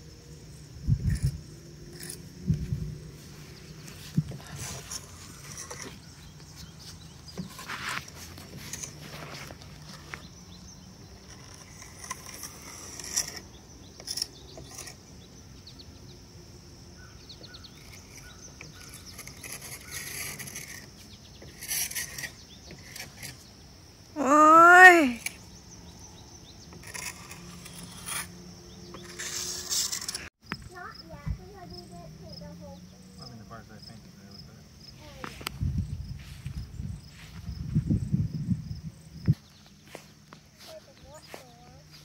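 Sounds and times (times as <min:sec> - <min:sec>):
rustles: 0:00.8 - 0:16.2, 0:16.9 - 0:25.8, 0:26.5 - 0:42.0.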